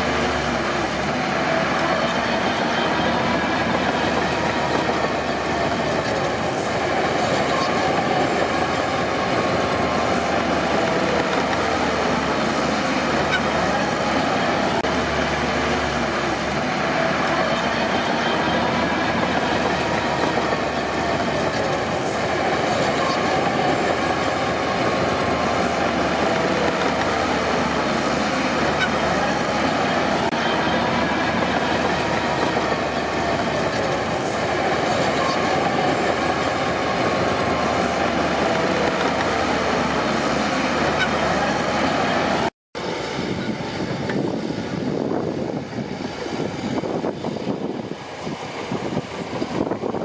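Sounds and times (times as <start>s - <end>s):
bulldozer engine: 0.0s - 50.0s
steel tracks clattering: 0.0s - 50.0s
track running gear squealing: 0.0s - 50.0s.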